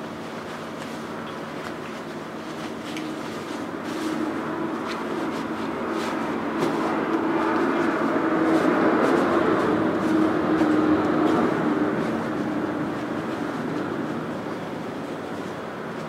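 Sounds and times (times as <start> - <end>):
cloth rustling: 0.2 - 16.0.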